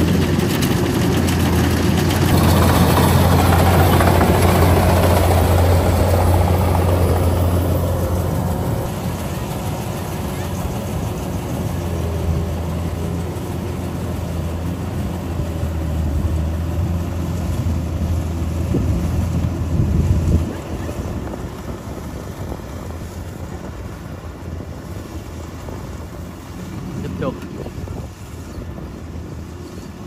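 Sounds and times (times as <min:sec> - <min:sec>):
combine harvester engine droning: 0:00.0 - 0:30.0
wind buffeting microphone: 0:00.0 - 0:30.0.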